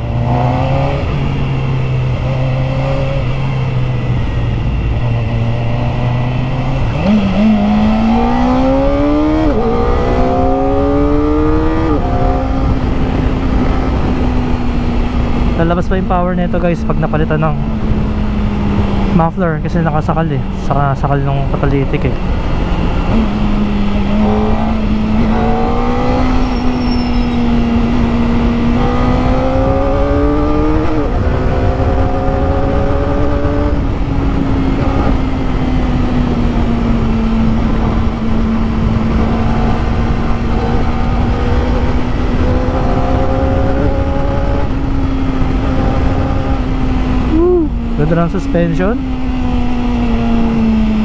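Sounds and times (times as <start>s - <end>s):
motorcycle engine cruising: 0.0s - 51.0s
wind and road noise: 0.0s - 51.0s.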